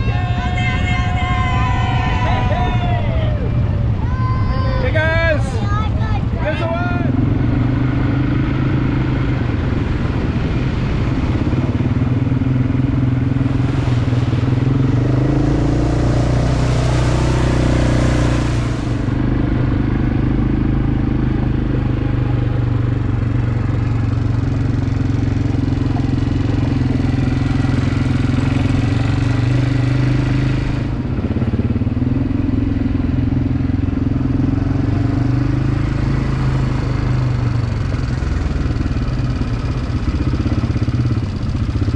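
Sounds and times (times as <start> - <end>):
quad bike engine revving: 3.7 - 41.9.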